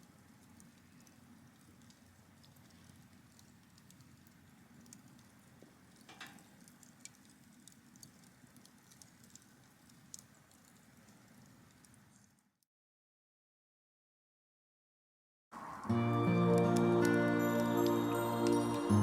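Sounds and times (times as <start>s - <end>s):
campfire crackling: 0.0s - 12.6s, 15.6s - 19.0s.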